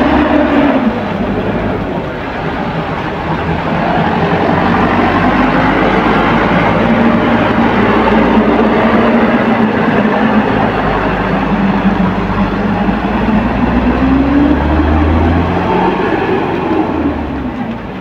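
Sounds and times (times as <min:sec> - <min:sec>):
diesel truck engine under load: 0:00.0 - 0:18.0.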